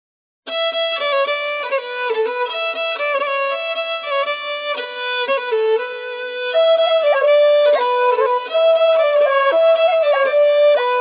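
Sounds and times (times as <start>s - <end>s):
solo fiddle playing quick melody: 0.5s - 11.0s.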